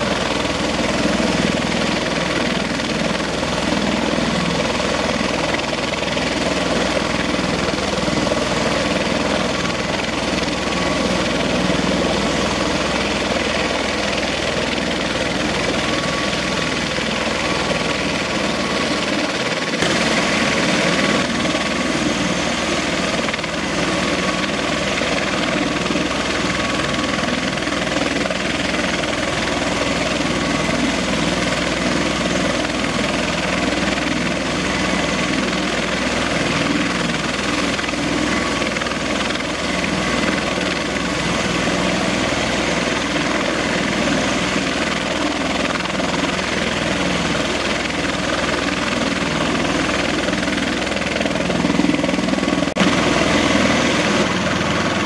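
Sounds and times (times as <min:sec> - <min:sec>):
rotor and turbine noise: 0:00.0 - 0:55.0.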